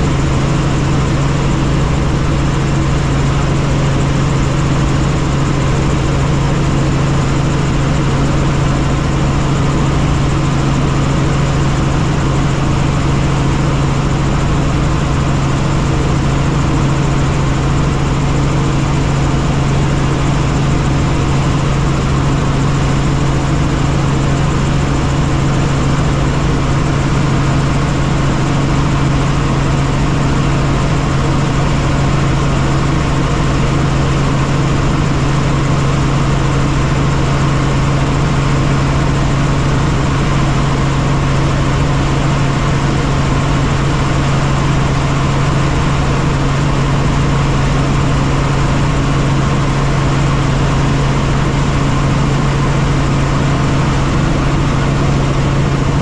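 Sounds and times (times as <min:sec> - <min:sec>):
helicopter drone: 0:00.0 - 0:56.0.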